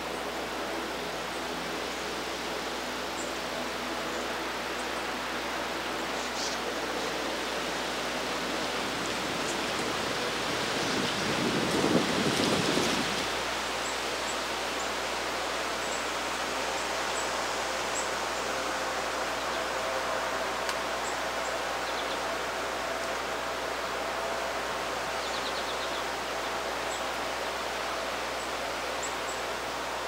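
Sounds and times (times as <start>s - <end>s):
rushing outdoor ambient noise: 0.0s - 30.0s.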